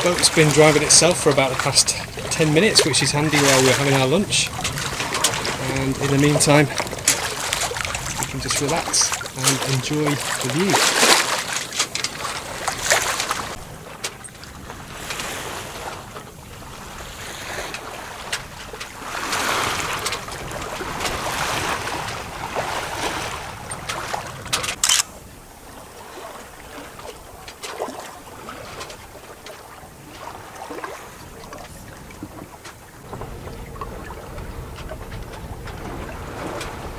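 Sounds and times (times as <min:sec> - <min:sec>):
water rushing along hull: 0:00.0 - 0:36.9
wind on microphone: 0:00.0 - 0:36.9.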